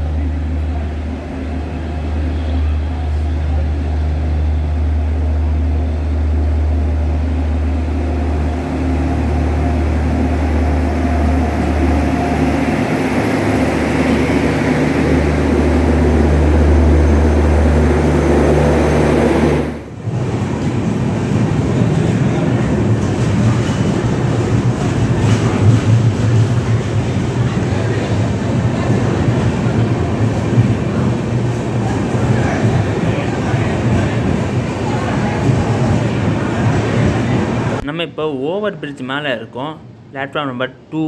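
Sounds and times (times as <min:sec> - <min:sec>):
train rumble: 0:00.0 - 0:37.8
train low hum: 0:00.0 - 0:40.9.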